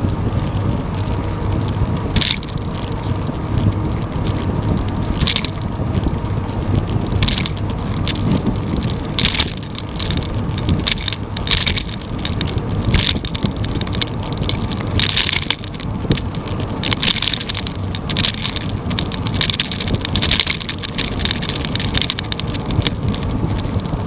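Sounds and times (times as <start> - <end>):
tyres rumbling on pavement: 0.0 - 24.0
wind buffeting microphone: 0.0 - 24.0.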